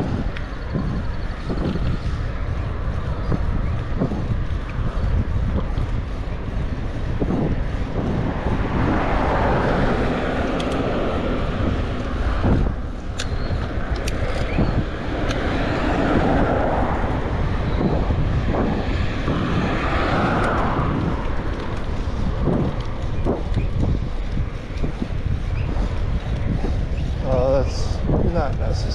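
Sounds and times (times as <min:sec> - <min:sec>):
low rumble: 0:00.0 - 0:28.9
wind rushing over microphone: 0:00.0 - 0:28.9.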